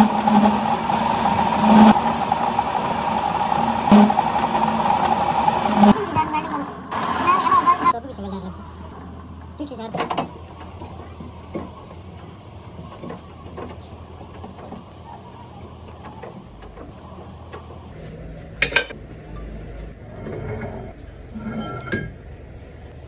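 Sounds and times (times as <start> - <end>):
workshop machinery humming: 0.0 - 20.1.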